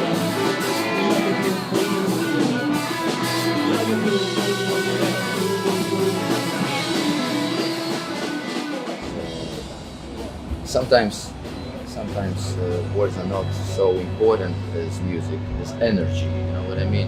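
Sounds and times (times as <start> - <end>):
rock band playing: 0.0 - 16.9.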